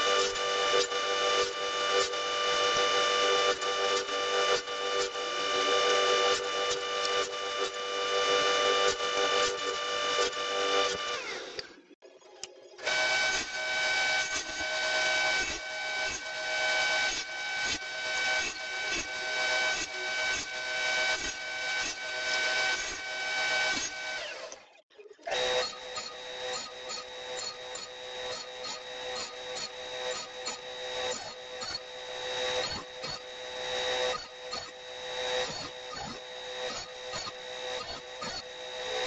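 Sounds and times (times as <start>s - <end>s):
table saw cutting wood: 0.0s - 11.8s, 12.8s - 24.6s, 25.3s - 39.0s.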